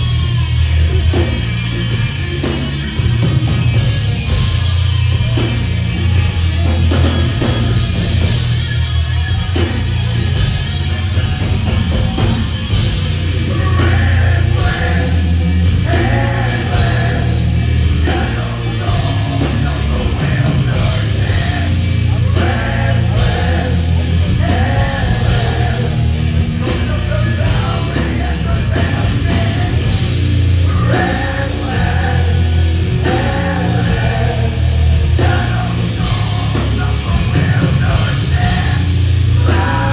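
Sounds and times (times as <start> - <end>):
heavy metal band playing: 0.0 - 39.9.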